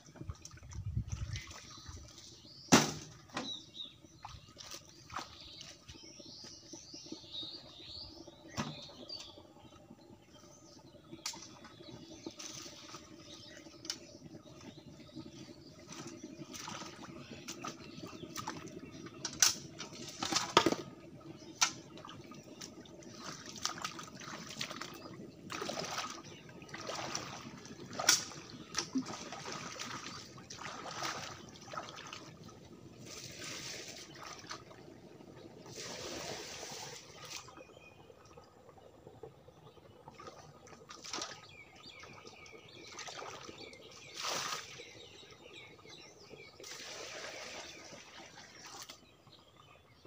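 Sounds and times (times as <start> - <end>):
water splashing and pouring: 0.0 - 9.9, 10.7 - 49.7.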